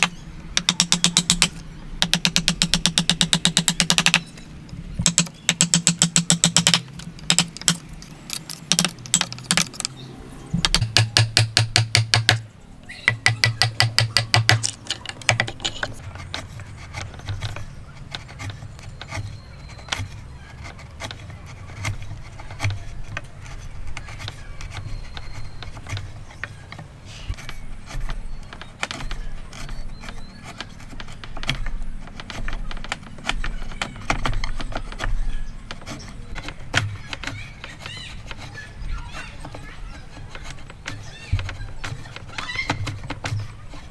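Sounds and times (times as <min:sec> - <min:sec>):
chisel striking wood: 0:00.0 - 0:04.3, 0:05.0 - 0:10.0, 0:10.6 - 0:43.9
chisel scraping wood: 0:00.0 - 0:43.9.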